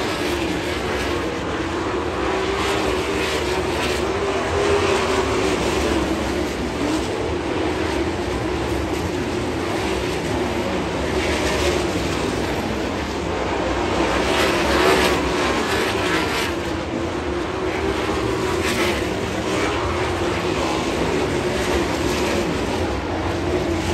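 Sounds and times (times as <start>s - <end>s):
race car engines roaring: 0.0s - 23.9s.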